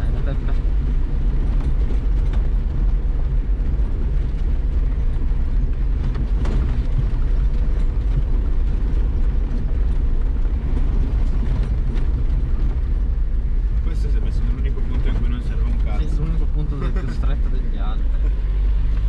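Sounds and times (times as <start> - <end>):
vehicle engine and tyre drone: 0.0 - 19.0.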